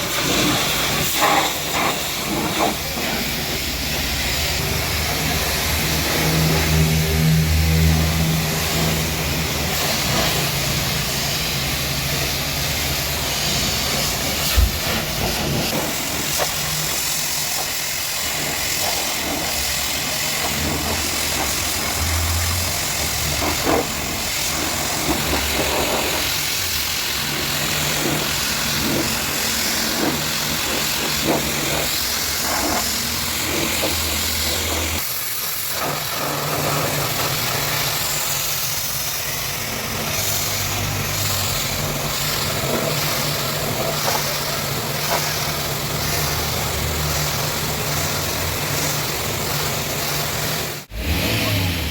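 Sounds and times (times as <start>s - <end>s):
pump motor humming: 0.0s - 50.9s
water spray hissing: 0.0s - 51.8s.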